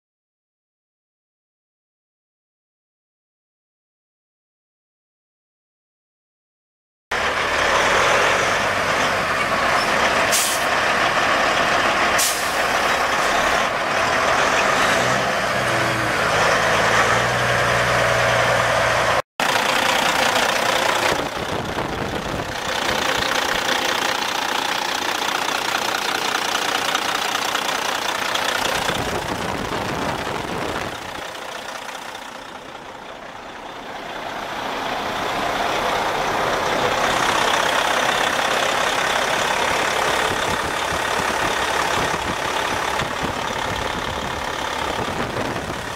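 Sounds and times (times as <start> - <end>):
truck diesel engine idling: 7.1 - 15.2, 16.0 - 45.9.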